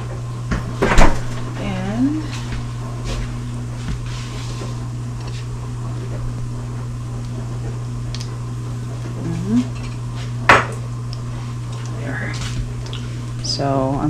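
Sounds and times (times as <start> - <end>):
dishwasher humming: 0.0 - 14.0.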